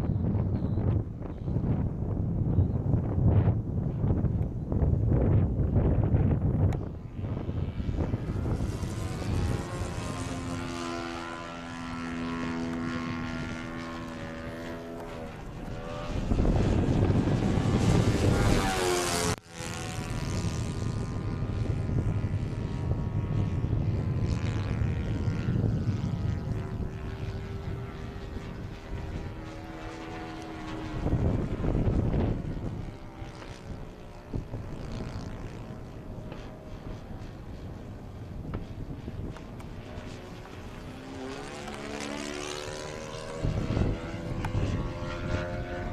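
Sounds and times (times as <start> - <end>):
model plane engine flying past: 0.0 - 45.9.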